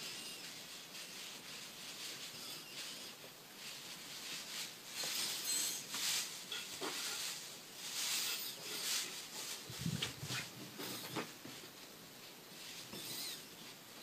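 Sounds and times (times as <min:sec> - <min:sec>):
paws rustling on bedsheet: 0:00.0 - 0:14.0.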